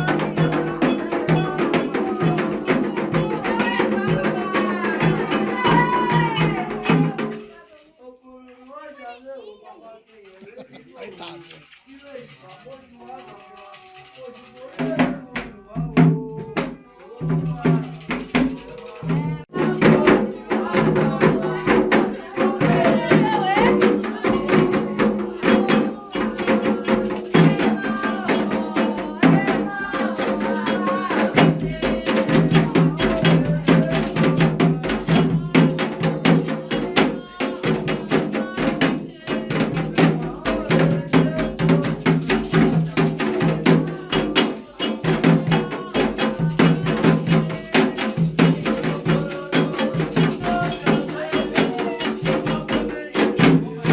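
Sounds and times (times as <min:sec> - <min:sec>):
drums in fast pattern: 0:00.0 - 0:07.7, 0:10.3 - 0:53.9
voices singing melody: 0:00.0 - 0:53.9.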